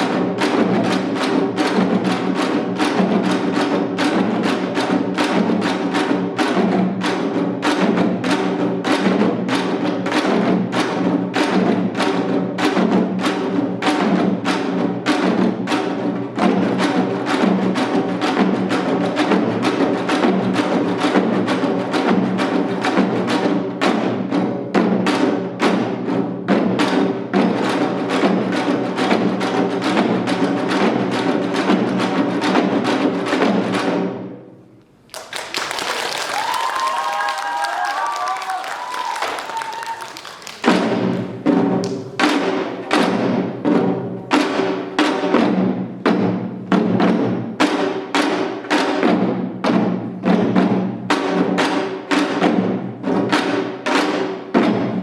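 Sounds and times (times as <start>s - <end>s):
hourglass drum fast rhythm: 0.0s - 34.3s, 36.4s - 55.0s.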